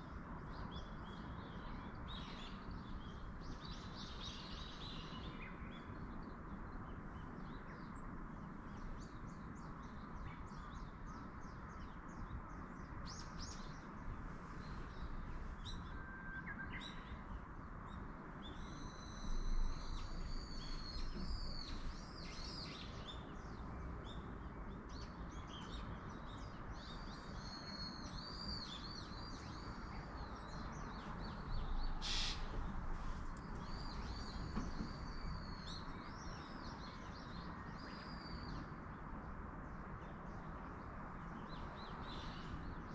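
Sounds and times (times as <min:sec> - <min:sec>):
songbirds chirping and calling: 0:00.0 - 0:42.9.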